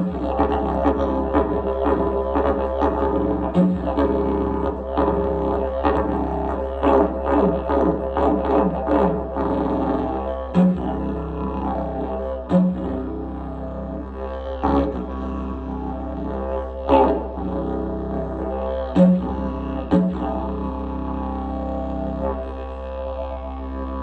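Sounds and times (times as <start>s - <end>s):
didgeridoo drone: 0.0s - 24.0s.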